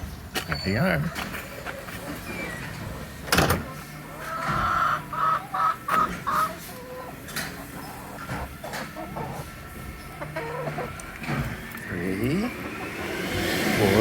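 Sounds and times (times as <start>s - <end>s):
chickens clucking: 0.6s - 14.0s.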